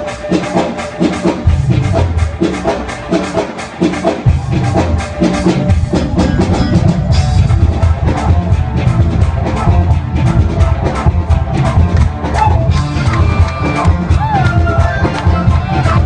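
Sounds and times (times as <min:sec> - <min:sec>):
drum kit beat: 0:00.0 - 0:16.0
heavy bass: 0:00.0 - 0:16.0
live band music: 0:00.0 - 0:16.0.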